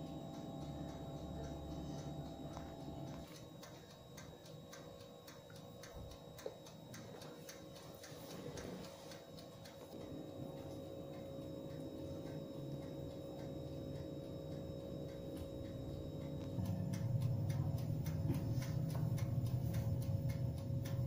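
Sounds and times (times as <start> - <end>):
mechanical dial timer ticking: 0.0 - 21.0
steady hum: 0.0 - 21.0.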